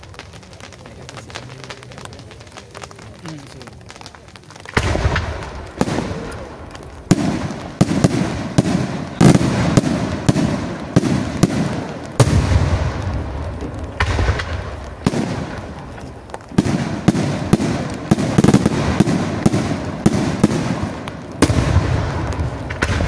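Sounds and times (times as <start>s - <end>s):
firework shells bursting: 0.0s - 23.0s.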